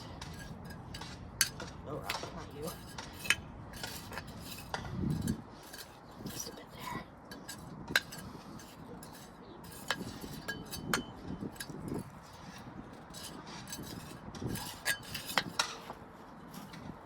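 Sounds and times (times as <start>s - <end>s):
pavers scraping on soil: 0.0s - 17.0s.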